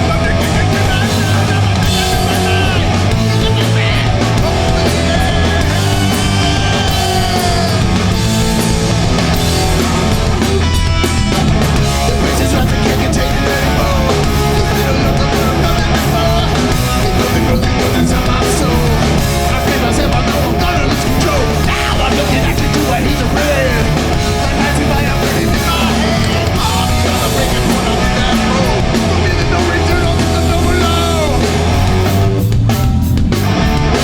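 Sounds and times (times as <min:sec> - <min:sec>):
person singing: 0:00.0 - 0:08.8, 0:11.9 - 0:32.0
punk band playing live: 0:00.0 - 0:34.0.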